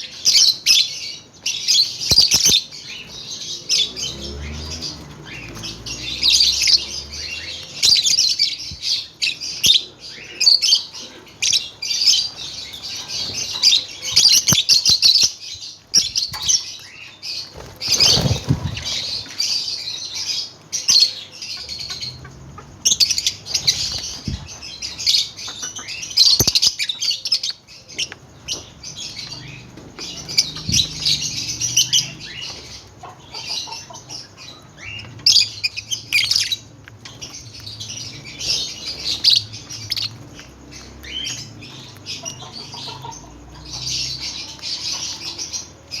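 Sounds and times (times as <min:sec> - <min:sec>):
birds chirping and squeaking: 0:00.0 - 0:46.0.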